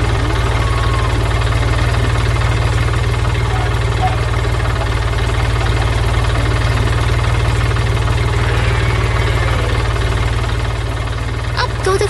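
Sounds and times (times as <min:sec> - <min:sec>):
cartoon forklift engine chugging: 0:00.0 - 0:12.0.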